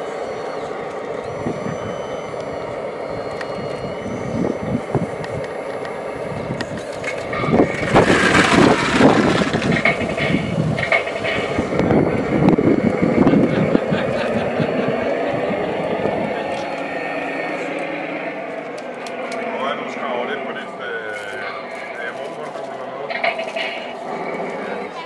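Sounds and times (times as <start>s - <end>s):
model trucks whirring: 0.0s - 25.0s.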